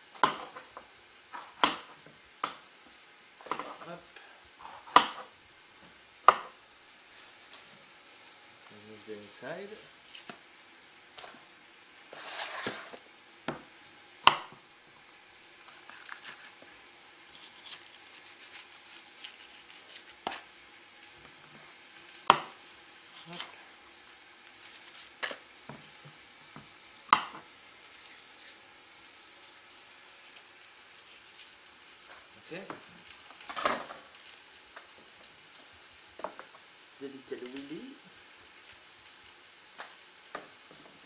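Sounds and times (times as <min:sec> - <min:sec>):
faint sizzle of onions frying: 0:00.0 - 0:41.0.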